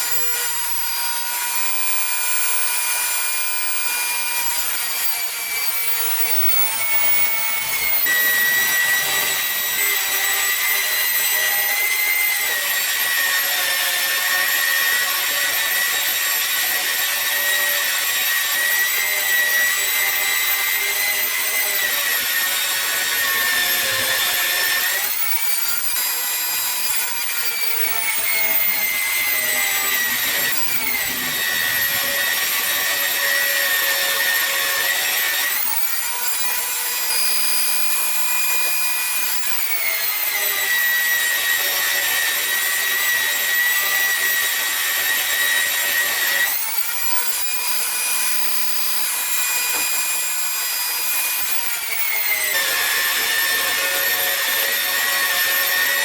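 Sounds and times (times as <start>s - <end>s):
angle grinder grinding metal: 0.0s - 56.0s.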